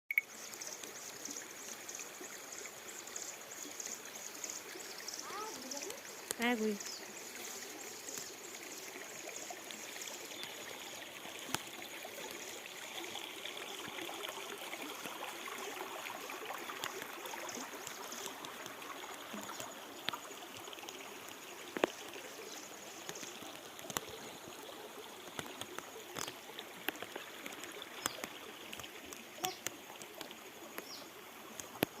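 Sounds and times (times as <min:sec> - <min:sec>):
river flowing over stones: 0:00.1 - 0:32.0
water splashes and clicks: 0:00.1 - 0:32.0.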